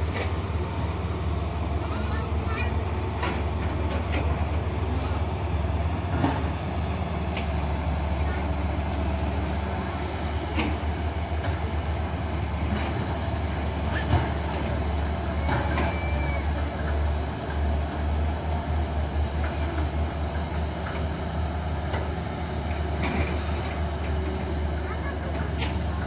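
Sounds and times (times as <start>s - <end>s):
excavator diesel engines rumbling: 0.0s - 26.0s.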